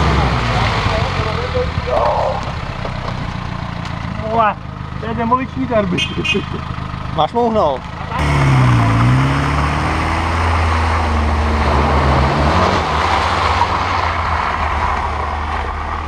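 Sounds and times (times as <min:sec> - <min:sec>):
engine driving by under throttle: 0:00.0 - 0:16.0.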